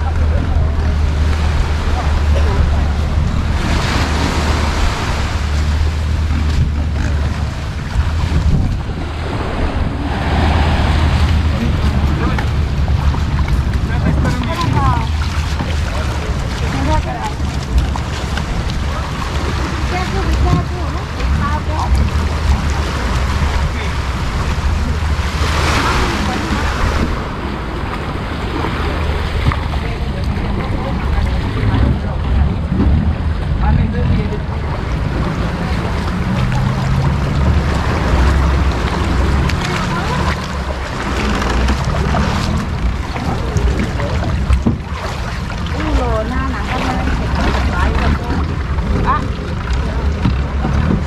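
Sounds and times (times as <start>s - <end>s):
waves washing onto sand: 0.0s - 51.0s
wind rumbling on microphone: 0.0s - 51.0s.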